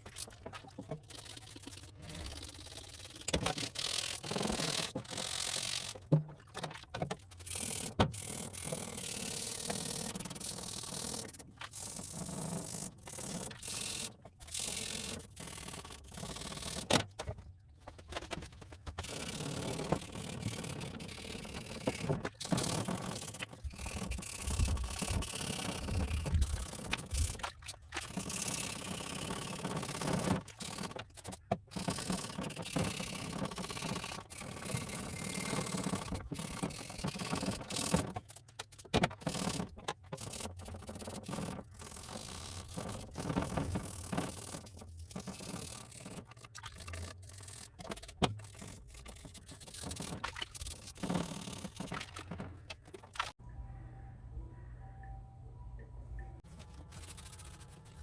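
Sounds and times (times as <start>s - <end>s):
hand scrubbing and scraping: 7.7s - 38.6s, 39.2s - 53.4s, 56.4s - 58.0s.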